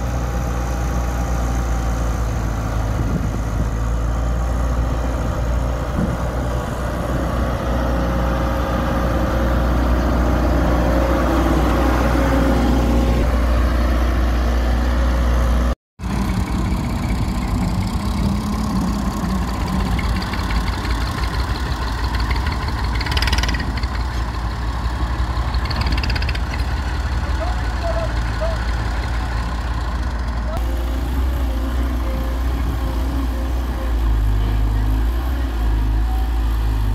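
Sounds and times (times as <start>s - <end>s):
diesel engines rumbling: 0.0s - 36.9s.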